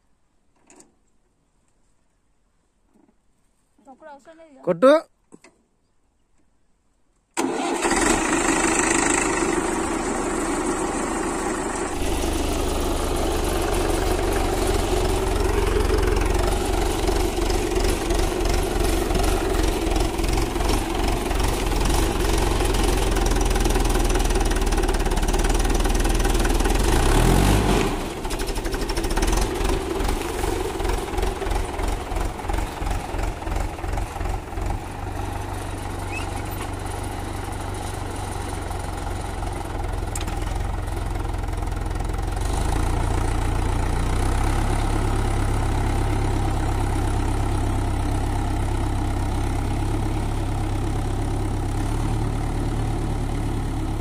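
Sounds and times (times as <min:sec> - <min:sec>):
tractor diesel engine running: 0:07.4 - 0:54.0.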